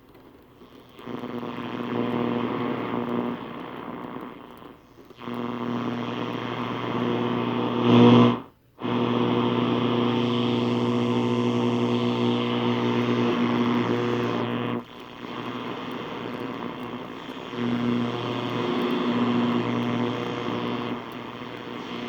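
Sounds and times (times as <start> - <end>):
radio static and buzzing hum: 0.0 - 22.0.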